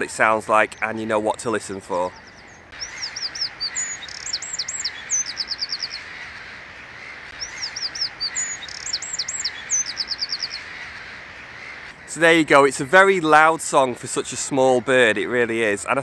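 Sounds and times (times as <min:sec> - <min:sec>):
wren singing: 0:00.0 - 0:14.8.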